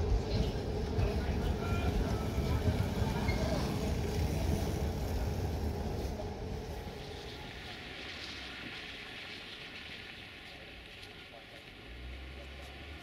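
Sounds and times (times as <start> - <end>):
train coaches rolling on rails: 0.0 - 13.0.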